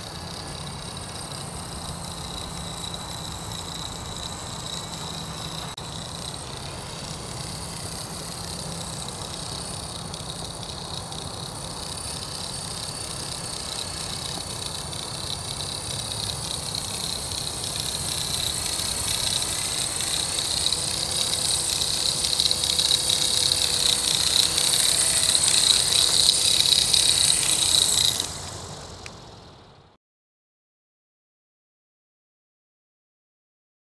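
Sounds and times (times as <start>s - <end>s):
rc helicopter motor and rotor whine: 0.0s - 30.0s.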